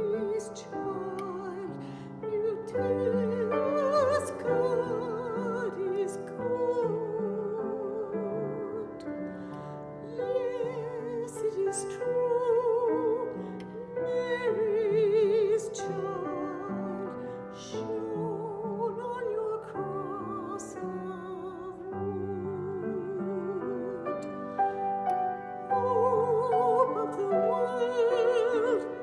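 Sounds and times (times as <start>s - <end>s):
piano accompaniment: 0.0s - 29.0s
soprano singing a carol: 0.0s - 29.0s.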